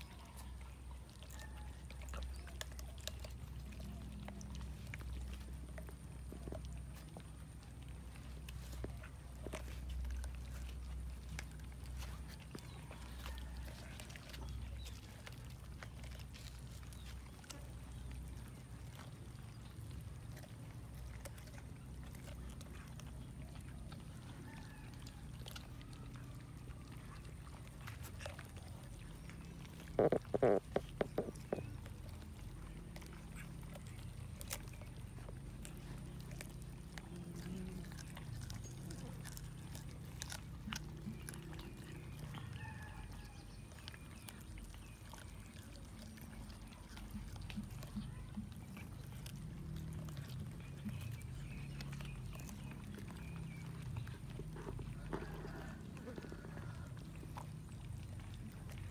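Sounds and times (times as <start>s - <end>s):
cats munching: 0.0s - 58.9s
low steady hum: 0.0s - 58.9s.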